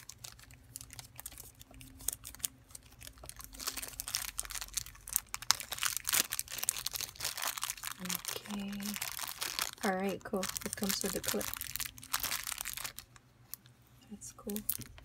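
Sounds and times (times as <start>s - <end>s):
plastic packaging crinkling: 0.0s - 13.7s, 14.3s - 15.0s.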